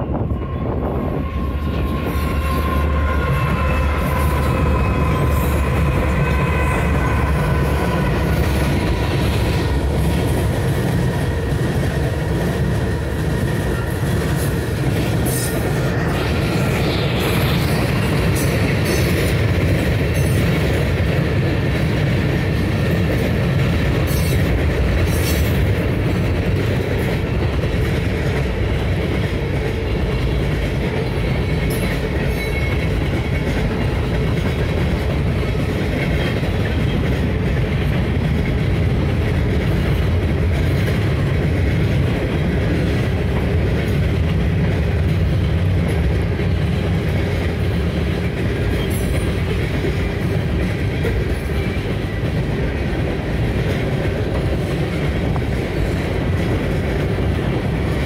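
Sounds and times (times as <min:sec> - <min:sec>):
rail clicking and clatter: 0:00.0 - 0:58.0
train wheels rumbling on track: 0:00.0 - 0:58.0.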